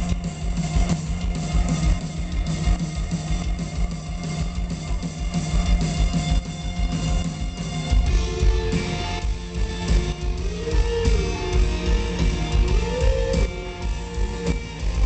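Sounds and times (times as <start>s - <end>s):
live rock band: 0.0s - 15.0s
pounding drums: 0.0s - 15.0s.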